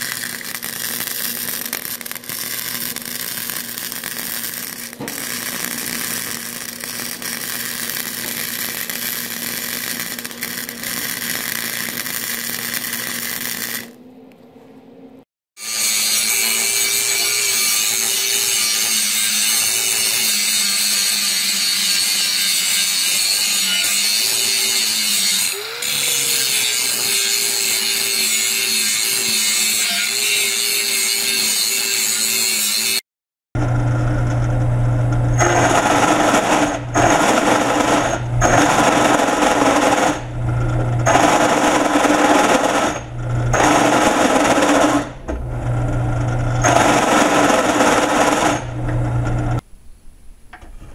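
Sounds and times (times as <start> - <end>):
angle grinder grinding steel: 0.0 - 14.0, 15.6 - 33.0, 35.2 - 49.6
drill press drilling steel: 0.0 - 14.0, 15.6 - 32.7, 33.6 - 49.6.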